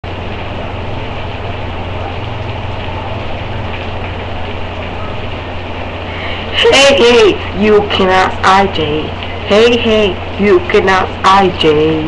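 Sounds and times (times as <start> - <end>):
low hum: 0.0 - 12.0
steady hiss: 0.1 - 12.0.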